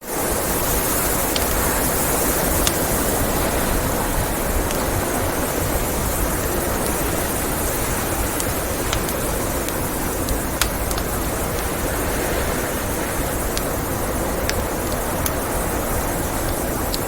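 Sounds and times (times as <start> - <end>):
rushing blizzard wind: 0.0 - 17.0
wood fire crackling: 0.0 - 17.0.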